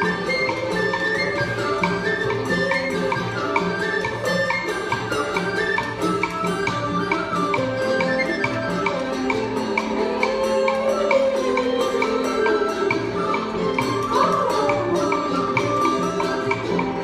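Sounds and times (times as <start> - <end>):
traditional melody with pitch slide: 0.0 - 17.0.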